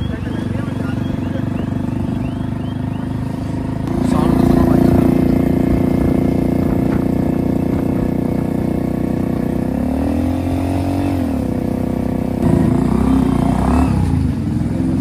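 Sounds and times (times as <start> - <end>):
loud motorcycle engine: 0.0 - 15.0.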